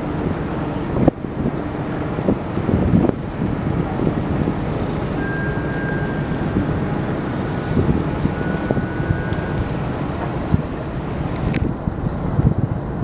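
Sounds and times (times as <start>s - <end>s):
low rumble of ship engines: 0.0s - 13.0s
wind buffeting microphone: 0.0s - 13.0s.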